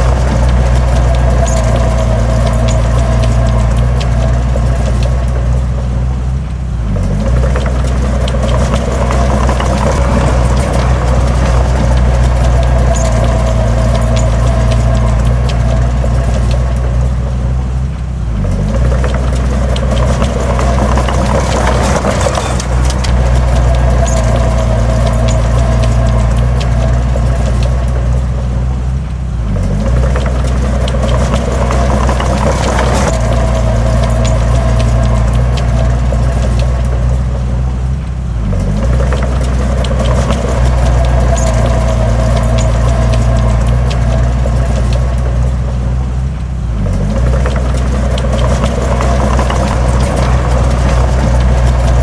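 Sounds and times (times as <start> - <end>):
heavy diesel engine running: 0.0 - 52.0
light rattling: 0.0 - 52.0.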